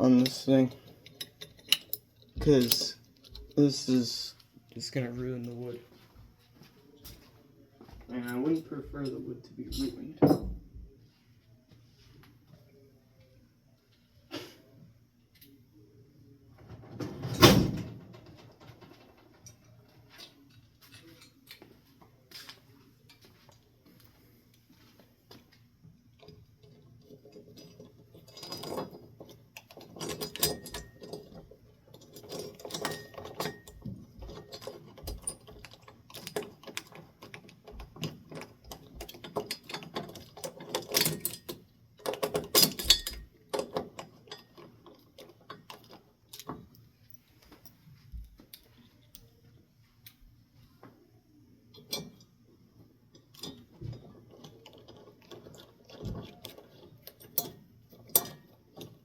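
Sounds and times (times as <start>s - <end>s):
metal hardware clicking and rattling: 0.0s - 6.0s, 7.8s - 10.8s, 16.6s - 24.1s, 24.8s - 50.2s, 51.7s - 59.0s.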